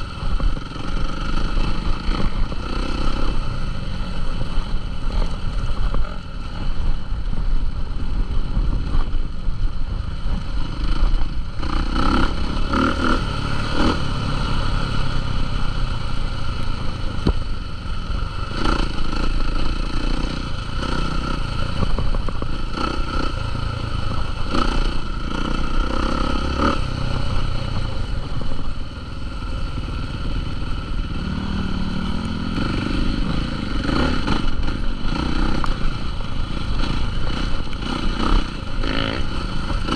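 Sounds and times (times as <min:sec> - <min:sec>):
dirt bike engines running: 0:00.0 - 0:39.9.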